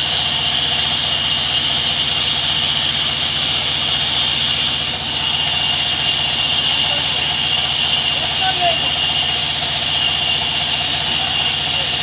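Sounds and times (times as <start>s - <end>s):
sawmill machinery running: 0.0s - 12.0s.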